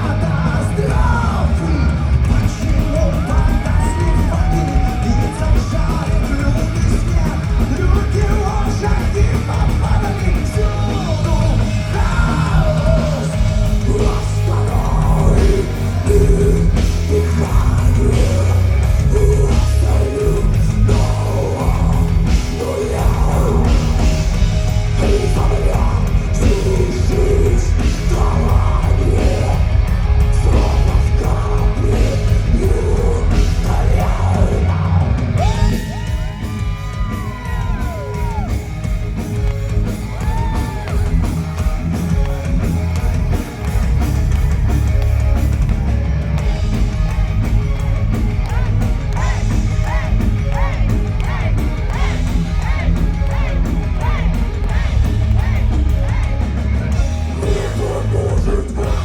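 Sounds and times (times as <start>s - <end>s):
person singing: 0.0s - 38.6s, 48.4s - 59.0s
heavy metal band playing: 0.0s - 59.0s.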